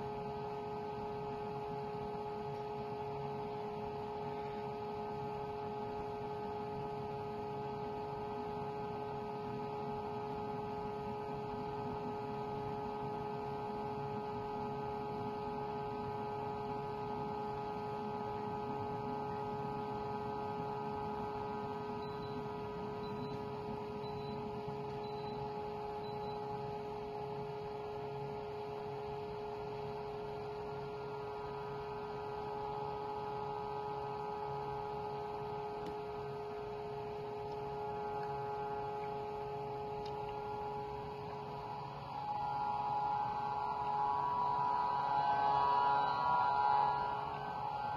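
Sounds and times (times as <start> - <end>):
machine buzzing hum: 0.0 - 47.9.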